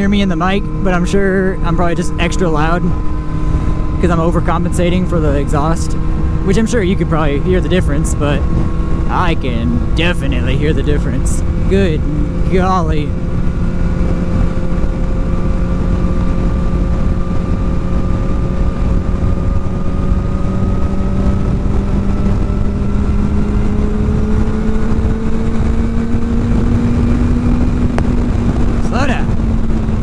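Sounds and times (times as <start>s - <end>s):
motorcycle engine accelerating: 0.0s - 30.0s
wind rumble on microphone: 0.0s - 30.0s.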